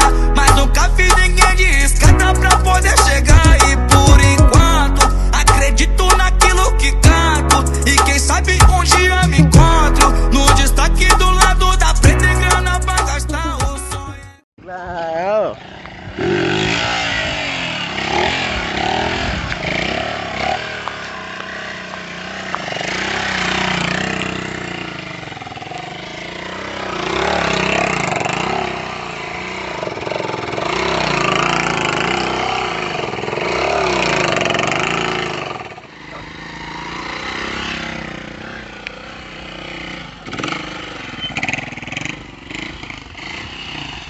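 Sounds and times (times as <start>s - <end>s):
motorcycle engine revving: 0.0s - 13.7s, 15.4s - 44.0s.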